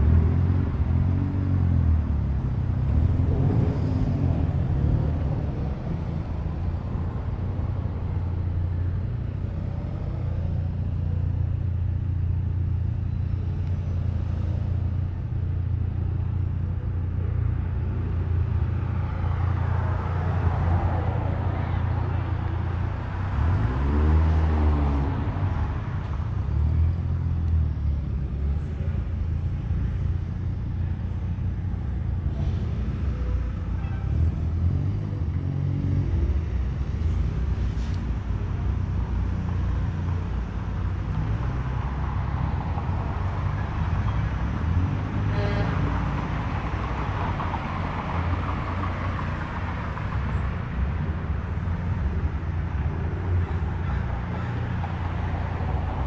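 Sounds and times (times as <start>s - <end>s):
car engines rumbling: 0.0s - 56.0s.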